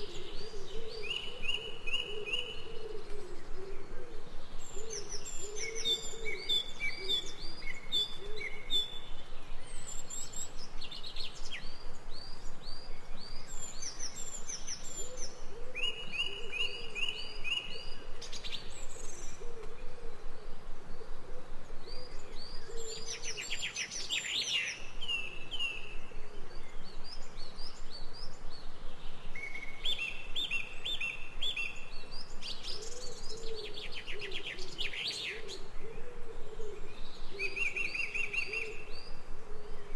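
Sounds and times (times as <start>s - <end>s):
birds singing high chirps: 0.0s - 39.9s.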